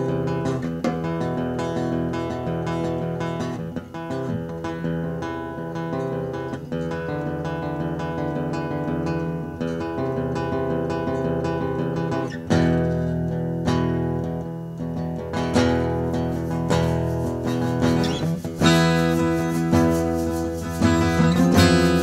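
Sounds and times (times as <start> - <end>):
guitar music: 0.0 - 22.0.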